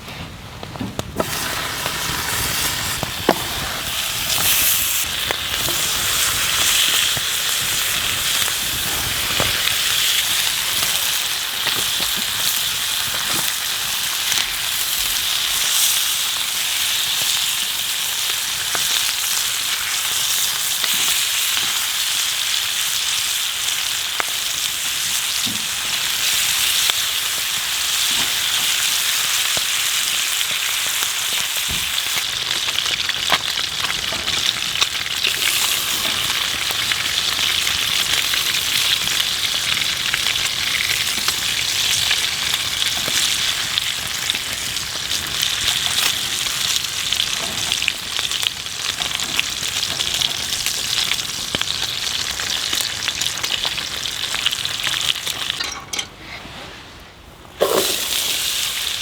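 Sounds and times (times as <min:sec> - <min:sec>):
small pops of frying: 0:00.1 - 0:56.1, 0:57.6 - 0:59.0
food sizzling in a pan: 0:01.2 - 0:55.8, 0:57.6 - 0:59.0.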